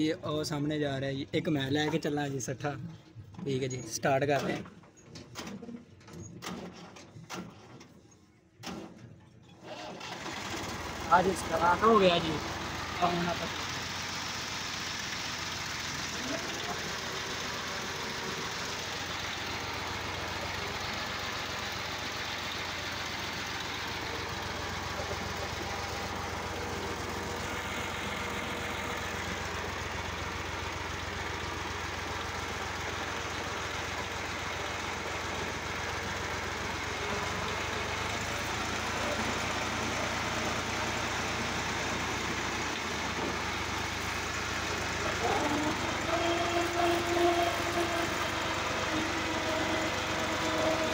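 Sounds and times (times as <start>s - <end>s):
diesel tractor engine running: 0.0s - 8.9s, 9.5s - 50.9s.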